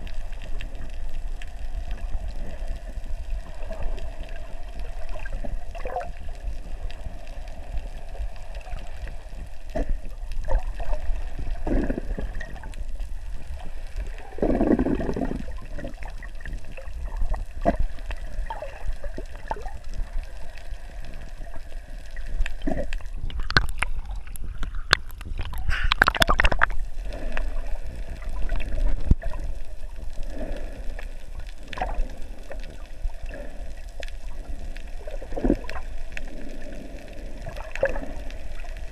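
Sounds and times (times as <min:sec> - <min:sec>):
water gurgling and sloshing: 0:00.0 - 0:38.9.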